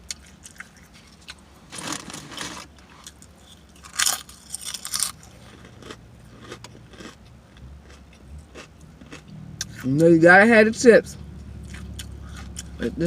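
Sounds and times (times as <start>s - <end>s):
crunchy chewing of food: 0.0s - 10.1s, 11.3s - 13.0s.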